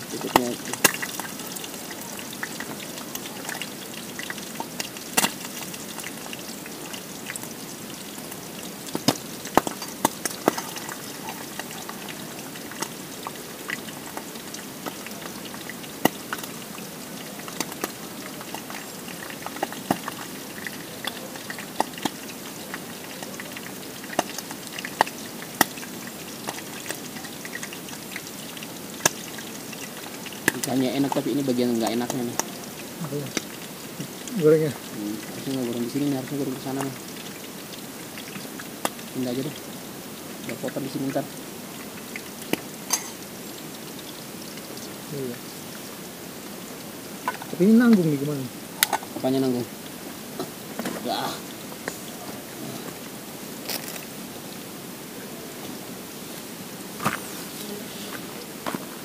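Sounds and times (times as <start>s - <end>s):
oil popping and spattering: 0.0s - 54.6s
oil sizzling in a pot: 0.0s - 59.0s.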